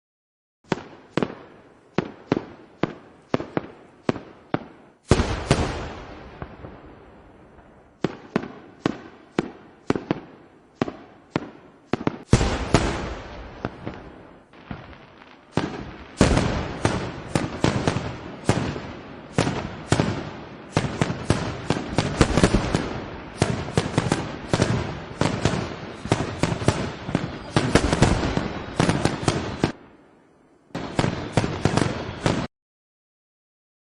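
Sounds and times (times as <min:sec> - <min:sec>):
fireworks bangs: 0:00.7 - 0:32.5.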